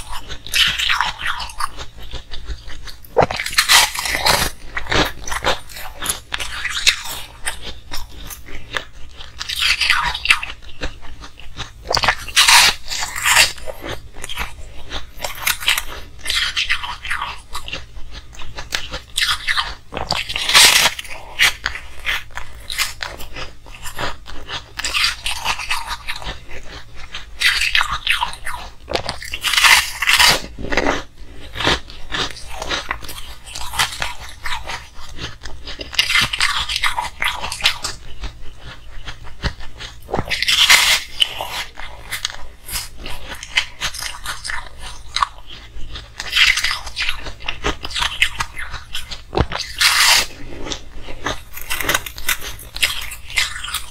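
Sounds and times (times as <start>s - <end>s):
person crunching ice: 0.0s - 17.8s, 18.6s - 38.2s, 39.0s - 53.9s.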